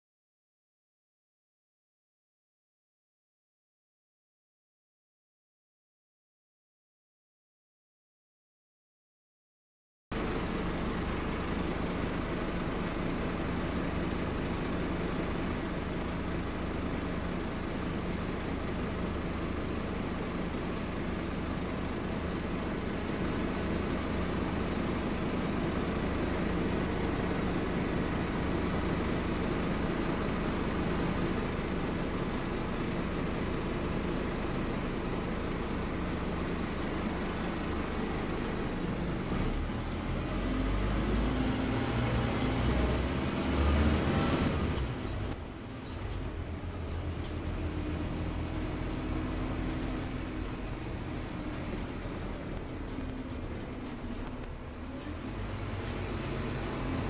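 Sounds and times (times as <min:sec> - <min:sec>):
bus engine hum: 0:10.1 - 0:57.0.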